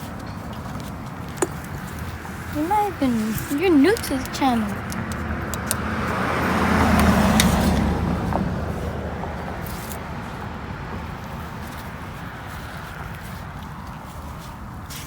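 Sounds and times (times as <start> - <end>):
vehicle passing by: 1.1 - 14.8.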